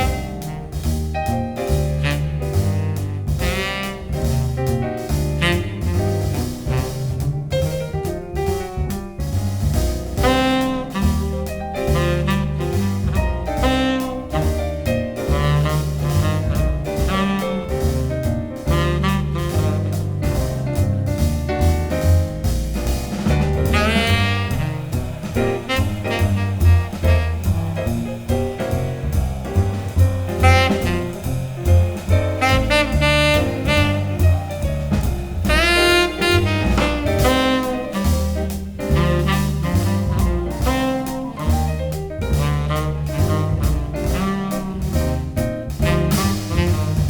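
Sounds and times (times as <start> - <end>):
saxophone solo: 0.0 - 1.4, 2.0 - 7.2, 10.2 - 20.7, 23.3 - 47.0
drum kit: 0.0 - 47.0
upright bass: 0.0 - 47.0.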